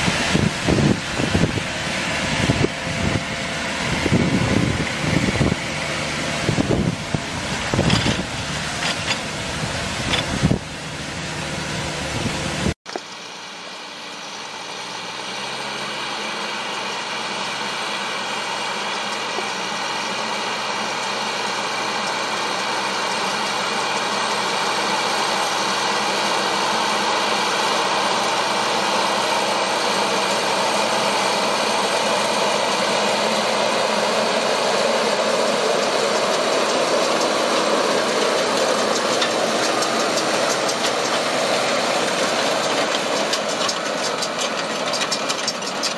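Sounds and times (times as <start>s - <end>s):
tractor diesel engine droning: 0.0s - 45.9s.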